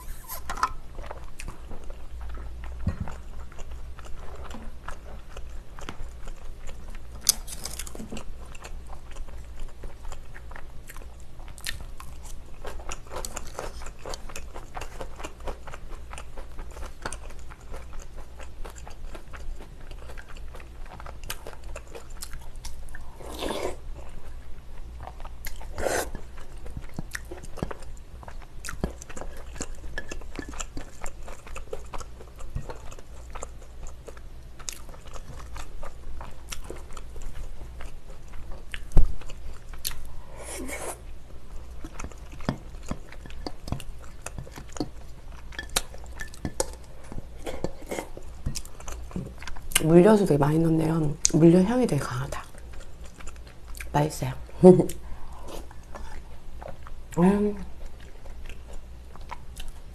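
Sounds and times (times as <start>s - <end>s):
person chewing and crunching food: 0.0s - 50.0s, 52.1s - 59.9s.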